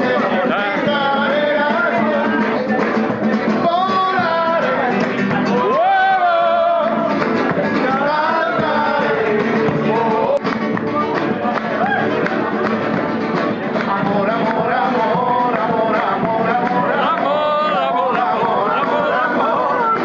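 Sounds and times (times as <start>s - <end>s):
guitar accompaniment: 0.0s - 20.0s.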